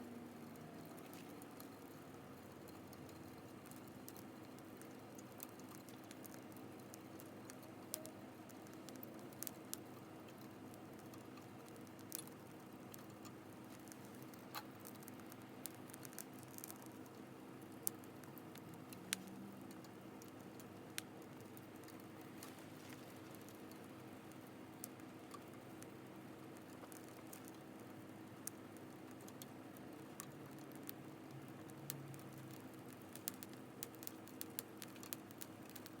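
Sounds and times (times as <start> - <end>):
campfire crackling and popping: 0.1 - 36.0.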